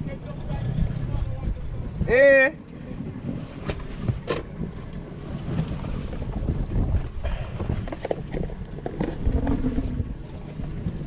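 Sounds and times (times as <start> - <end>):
water sounds: 0.0 - 11.0
wind buffeting microphone: 0.0 - 11.0.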